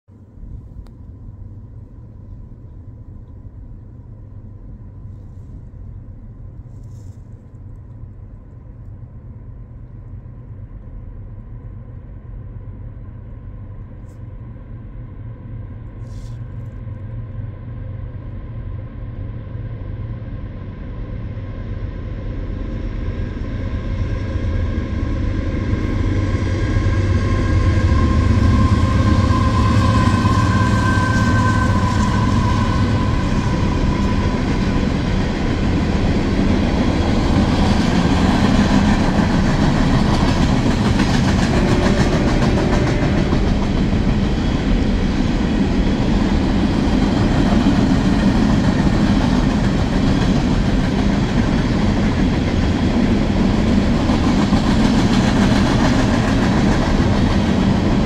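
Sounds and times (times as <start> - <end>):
diesel locomotive low rumble: 0.0 - 58.0
thin steady whine: 0.2 - 54.2.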